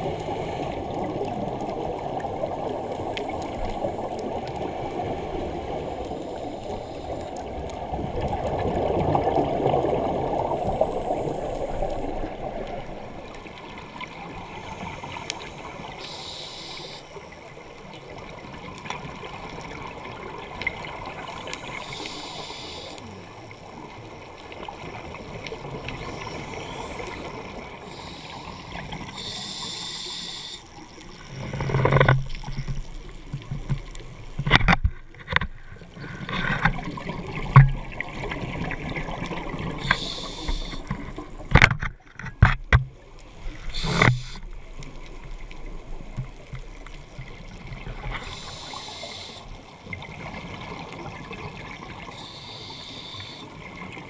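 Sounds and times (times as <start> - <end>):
regulator bubbles gurgling: 0.0 - 34.7, 35.5 - 54.0
steady underwater hiss: 0.0 - 41.7, 42.9 - 54.0.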